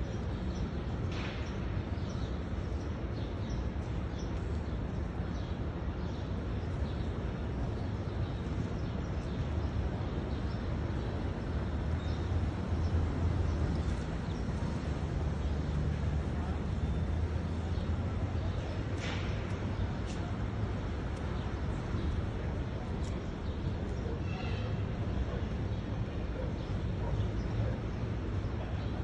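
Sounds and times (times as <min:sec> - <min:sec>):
sparrows chirping: 0:00.0 - 0:29.0.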